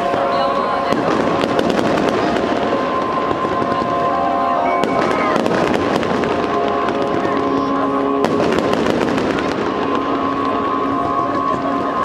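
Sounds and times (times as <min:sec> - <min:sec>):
fireworks crackling and popping: 0:00.0 - 0:12.0
music over loudspeakers: 0:00.0 - 0:12.0.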